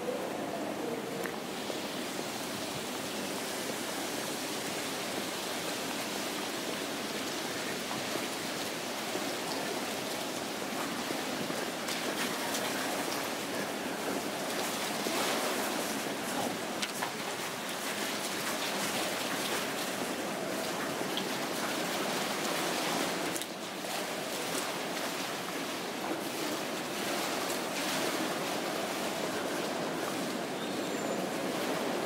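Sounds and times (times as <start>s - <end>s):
steady outdoor rushing hiss: 0.0s - 32.0s.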